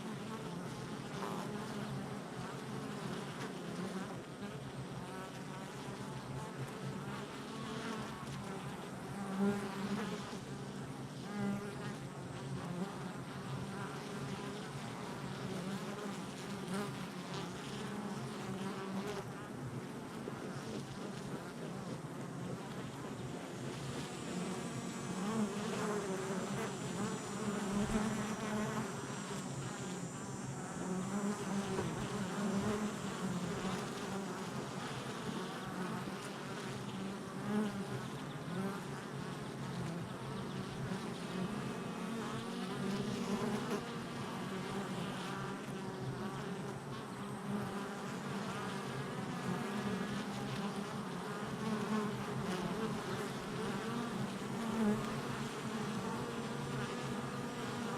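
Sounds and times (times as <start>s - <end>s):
bees buzzing: 0.0s - 57.9s.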